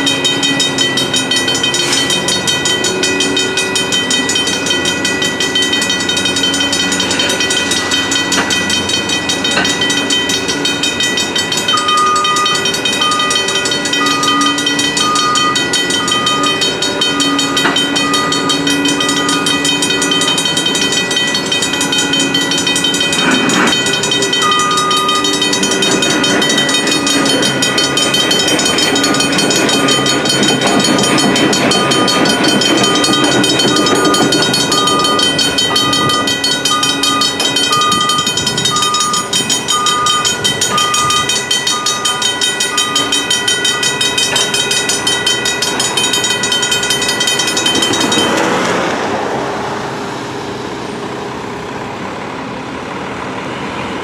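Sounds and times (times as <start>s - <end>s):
railroad crossing bells ringing: 0.0s - 54.0s.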